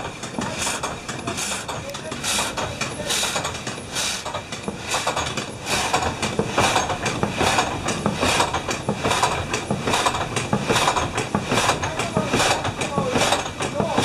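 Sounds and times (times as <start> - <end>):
frame saw cutting log: 0.0 - 14.0.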